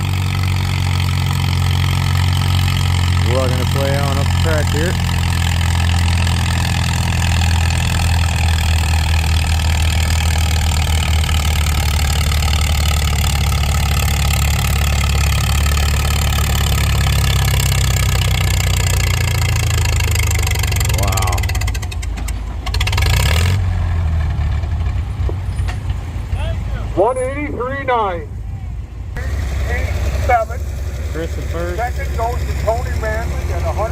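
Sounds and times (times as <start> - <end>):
tractor engine under heavy load: 0.0 - 33.9.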